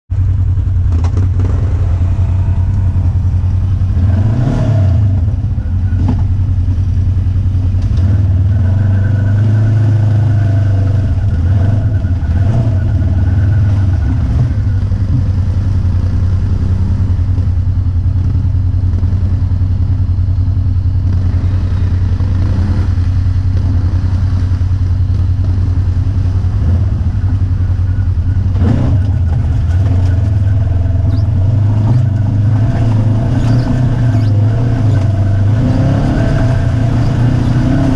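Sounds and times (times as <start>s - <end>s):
atv engine revving: 0.2s - 37.9s.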